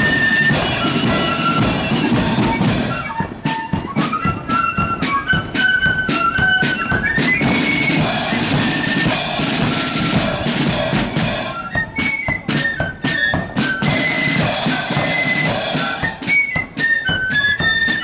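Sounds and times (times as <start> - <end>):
sharp drum strokes: 0.0 - 16.8
flute band playing: 0.0 - 18.0.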